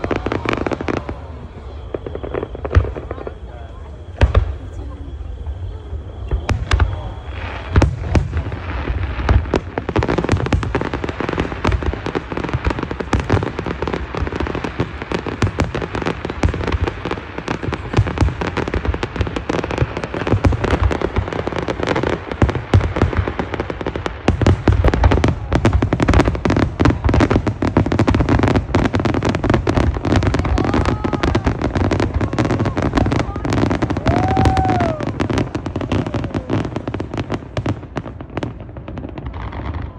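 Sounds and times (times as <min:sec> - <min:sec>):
firework booms: 0:00.0 - 0:39.9
firework crackle: 0:00.0 - 0:39.9.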